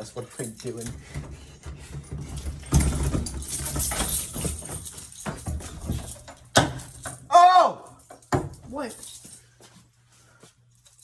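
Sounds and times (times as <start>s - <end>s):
wires and hardware clattering: 0.0s - 9.5s.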